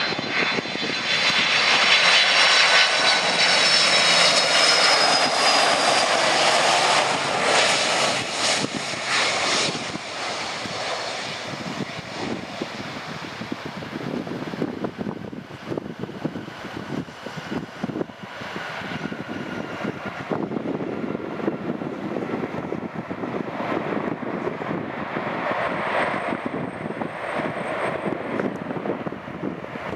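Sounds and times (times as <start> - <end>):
faint jet engine whine: 0.0 - 29.9
jet engines rumbling: 0.0 - 29.9.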